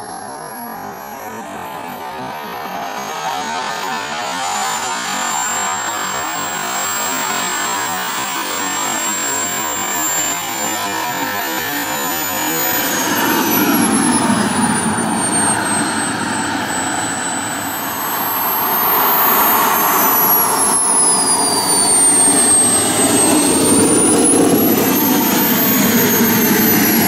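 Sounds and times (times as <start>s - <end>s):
model jet turbine roar and whine: 0.0s - 27.0s.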